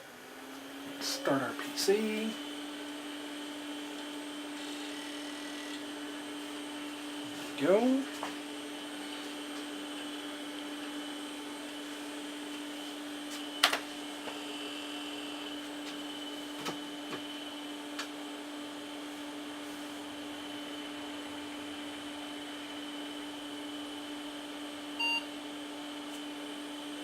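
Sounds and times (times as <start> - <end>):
computer fan hum: 0.0 - 27.0.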